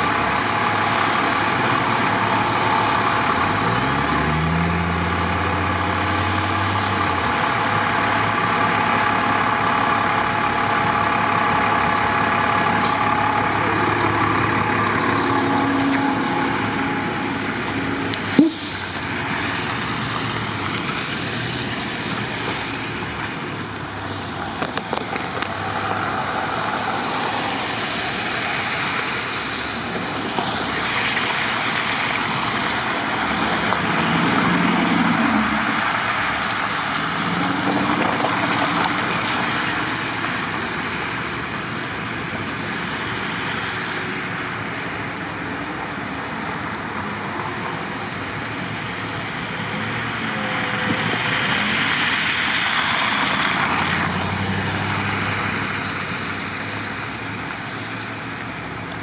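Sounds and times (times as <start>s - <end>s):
vehicle engines on street: 0.0s - 59.0s.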